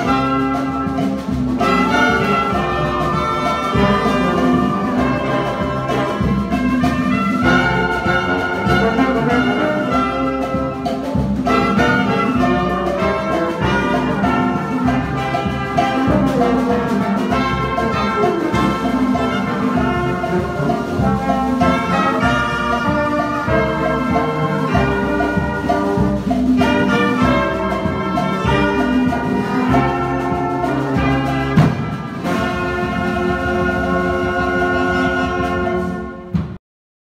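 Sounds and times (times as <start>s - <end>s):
sharp drum hit: 0.0s - 33.9s
brass band playing a hymn tune: 0.0s - 36.6s.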